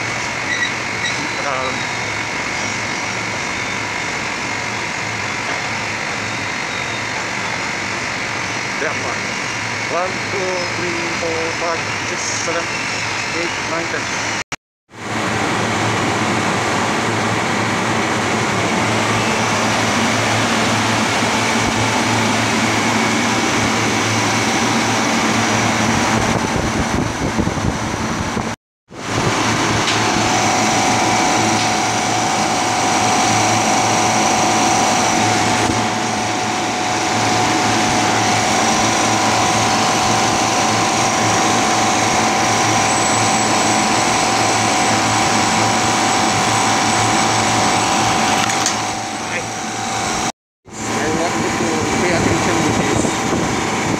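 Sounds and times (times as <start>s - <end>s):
compressor running: 0.0s - 53.9s
condenser fan: 0.0s - 53.9s.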